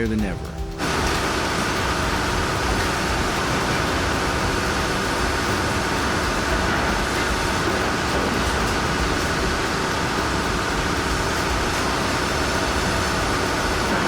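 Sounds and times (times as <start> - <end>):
heavy machinery engines rumbling: 0.0 - 14.0.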